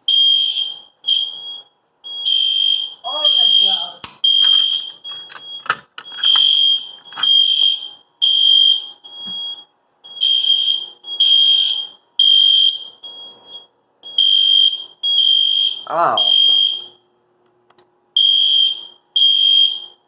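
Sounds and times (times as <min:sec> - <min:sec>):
fire alarm horn blasts: 0:00.0 - 0:17.0, 0:18.2 - 0:20.0.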